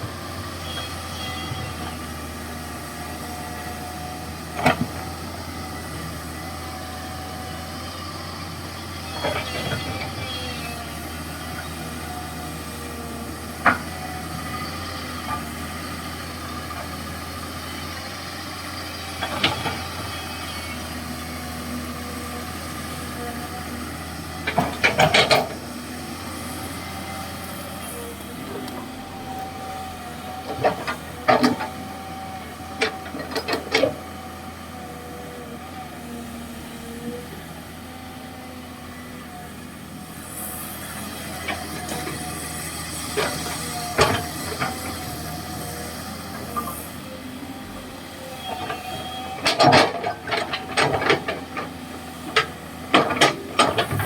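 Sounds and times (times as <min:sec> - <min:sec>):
excavator diesel engine humming: 0:00.0 - 0:54.0.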